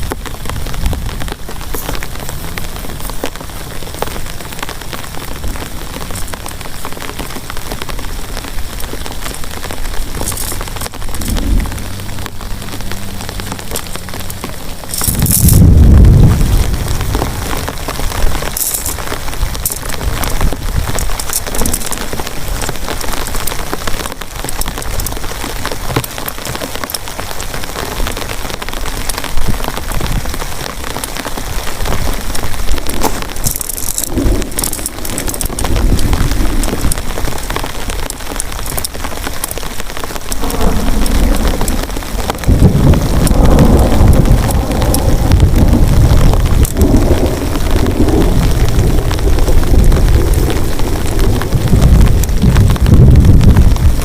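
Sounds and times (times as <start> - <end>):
heavy rain falling: 0.0 - 54.0
low thunder rumbles: 0.0 - 54.0.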